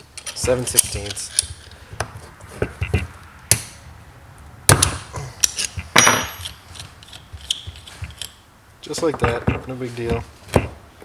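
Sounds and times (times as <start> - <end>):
hand tools clanking on metal: 0.0 - 3.8, 4.7 - 10.8
sharp metallic knocks: 0.0 - 3.8, 4.6 - 10.8.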